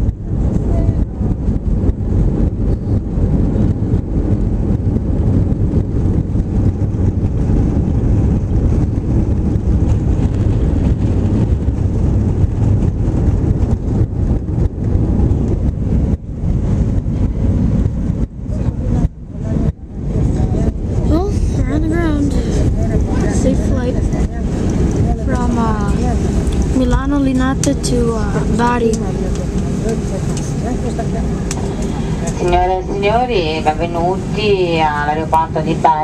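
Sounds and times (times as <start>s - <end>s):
airplane cabin rumble: 0.0s - 36.0s.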